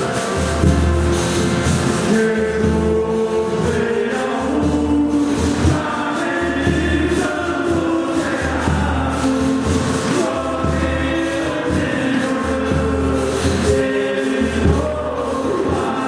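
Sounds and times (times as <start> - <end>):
group singing devotional song: 0.0 - 16.0.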